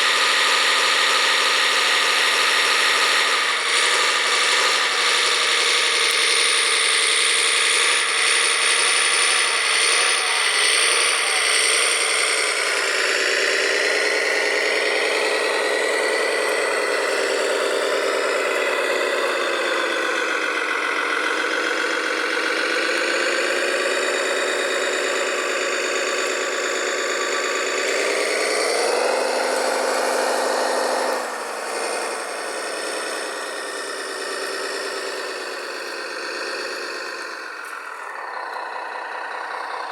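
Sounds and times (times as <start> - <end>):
rc truck engine running: 0.0 - 39.9.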